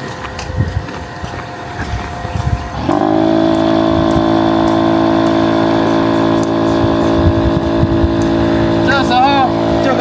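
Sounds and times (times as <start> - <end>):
electric air pump humming: 0.0 - 10.0.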